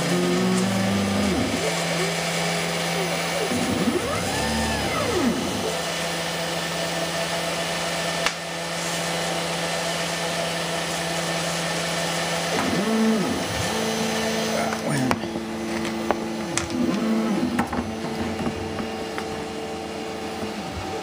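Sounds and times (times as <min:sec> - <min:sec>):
stepper motors whining: 0:00.0 - 0:08.2, 0:09.2 - 0:21.0
machine whirring hum: 0:00.0 - 0:21.0.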